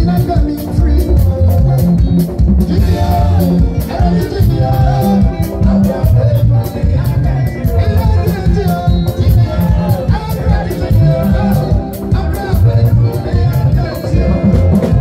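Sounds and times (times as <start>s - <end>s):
bass: 0.0s - 15.0s
drum kit: 0.0s - 15.0s
man singing through microphone: 0.0s - 15.0s.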